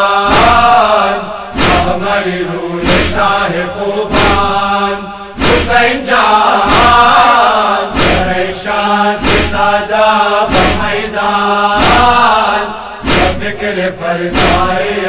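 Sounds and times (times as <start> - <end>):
men chanting in unison: 0.0 - 15.0
heavy chest-beating rhythm: 0.1 - 15.0.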